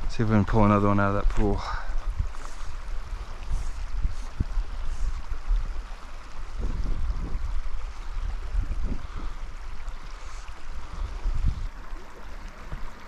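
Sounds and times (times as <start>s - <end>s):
stream running over gravel: 0.0s - 13.0s
wind buffeting microphone: 0.0s - 13.0s.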